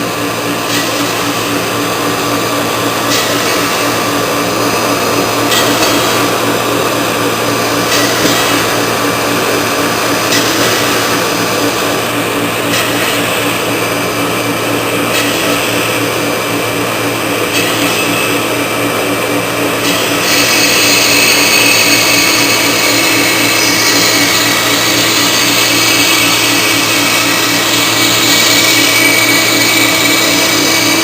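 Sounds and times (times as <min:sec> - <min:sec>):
cnc router spindle whining: 0:00.0 - 0:31.0
higher-pitched whine: 0:00.0 - 0:31.0.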